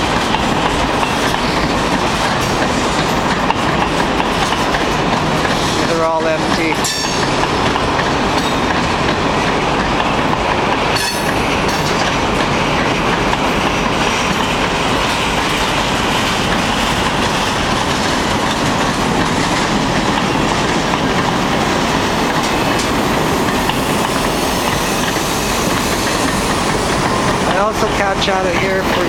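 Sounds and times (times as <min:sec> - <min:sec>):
freight train rolling past: 0:00.0 - 0:29.0
steel wheels clattering on rails: 0:00.0 - 0:29.0.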